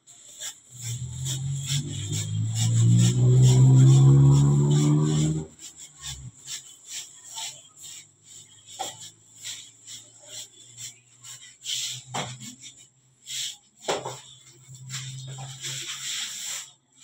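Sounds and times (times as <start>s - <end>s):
dough rubbing and tapping: 0.0s - 17.0s.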